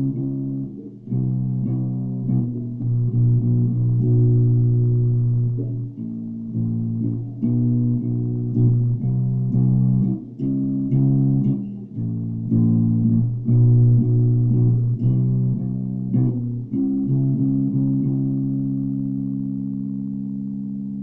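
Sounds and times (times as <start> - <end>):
electric bass riff: 0.0 - 21.0.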